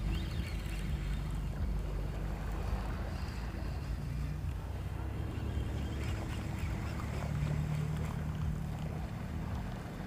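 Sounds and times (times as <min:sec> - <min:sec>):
distant boat engine hum: 0:00.0 - 0:10.0
wind rumble on microphone: 0:00.0 - 0:10.0.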